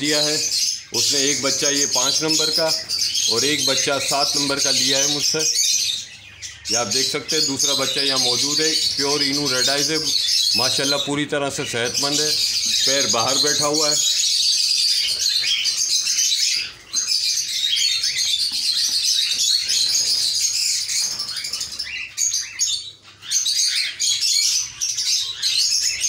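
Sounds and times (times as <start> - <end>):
cockatiels chirping and calling: 0.0 - 26.0.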